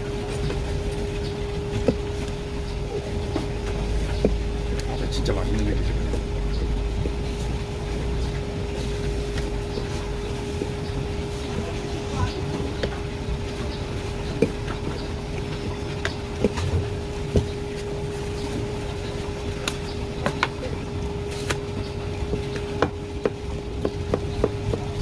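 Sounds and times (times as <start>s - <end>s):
steady hum and low rumble: 0.0s - 25.0s.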